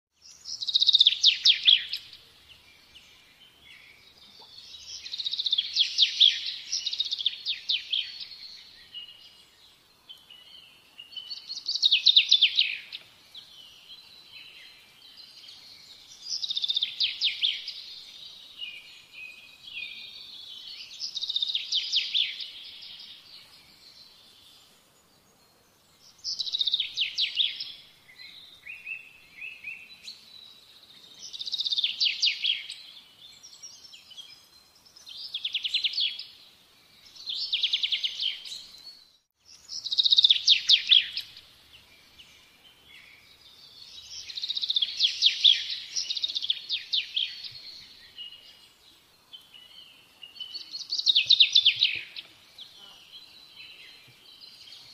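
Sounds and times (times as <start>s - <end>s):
songbird singing trilled phrases: 0.2s - 24.7s, 25.9s - 54.9s.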